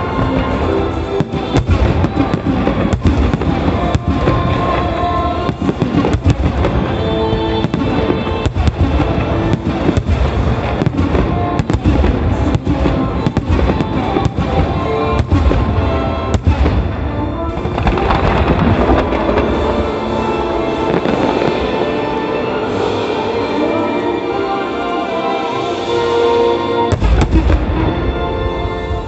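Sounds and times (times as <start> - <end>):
firework crackle: 0.0 - 23.7
recorded music: 0.0 - 29.0.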